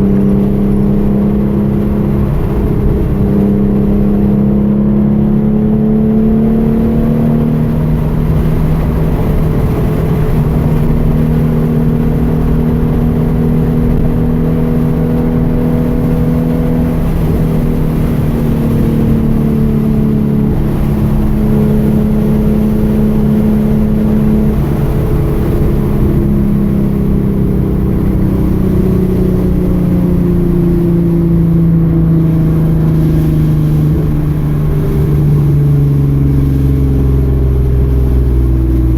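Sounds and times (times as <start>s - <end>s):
car engine running: 0.0s - 38.9s
low road rumble: 0.0s - 38.9s.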